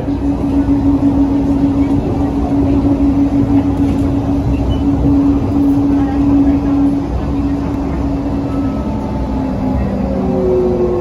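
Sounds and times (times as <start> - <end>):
train rumbling on guideway: 0.0 - 11.0.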